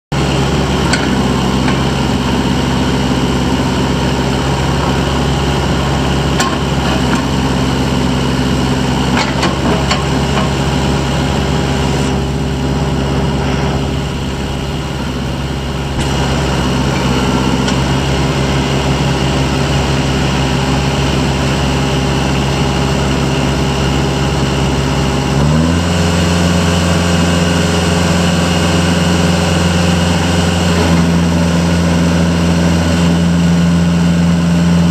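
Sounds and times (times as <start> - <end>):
diesel tractor engine idling: 0.1 - 34.9.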